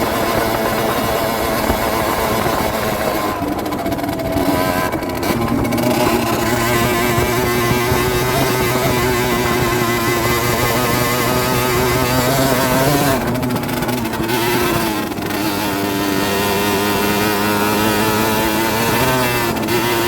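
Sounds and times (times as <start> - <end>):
two-stroke engine running: 0.0 - 20.0.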